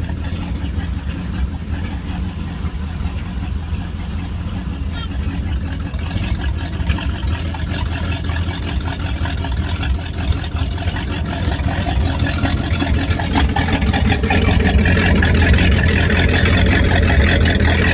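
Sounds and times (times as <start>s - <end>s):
boat engine deep exhaust note: 0.0s - 17.9s.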